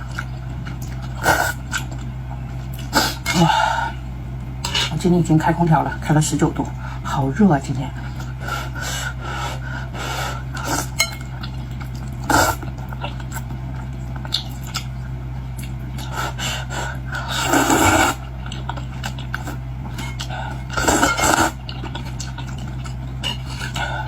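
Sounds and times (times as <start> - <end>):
close-miked eating: 0.0 - 7.1, 7.8 - 24.0
low hum: 0.0 - 24.0.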